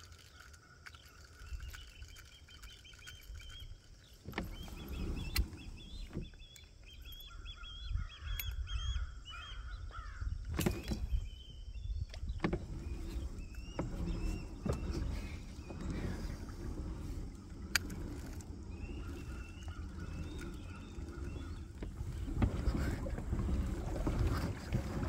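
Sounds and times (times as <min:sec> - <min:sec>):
birds calling: 0:00.0 - 0:25.0.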